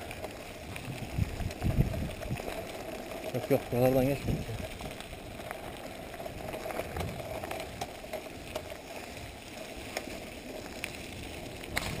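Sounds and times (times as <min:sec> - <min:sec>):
bike clicks and rattles: 0:00.0 - 0:12.0
bike tyres crunching on gravel: 0:00.0 - 0:12.0.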